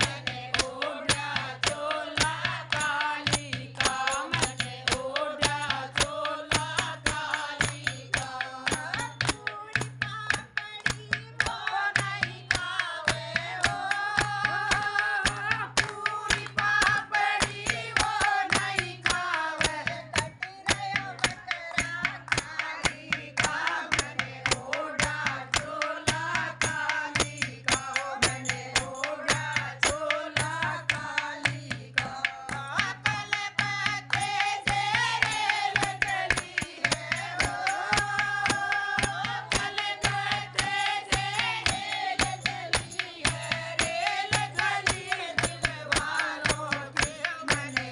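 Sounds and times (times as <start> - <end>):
rhythmic hand-clapping: 0.0 - 47.9
women singing devotional song: 0.0 - 47.9.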